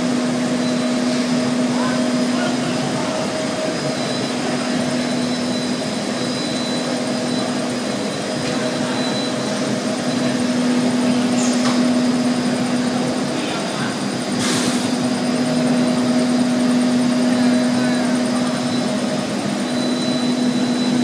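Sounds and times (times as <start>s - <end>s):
machine whir and hiss: 0.0s - 21.0s.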